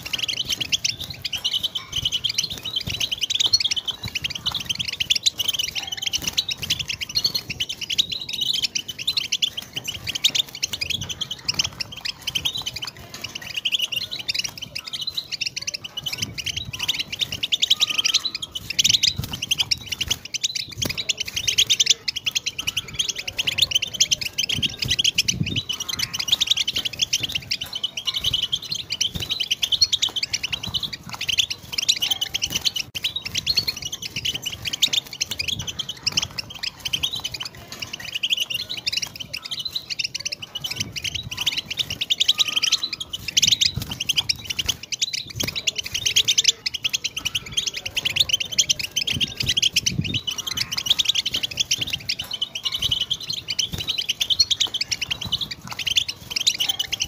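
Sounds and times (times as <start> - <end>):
goldfinch twittering song: 0.0 - 57.0.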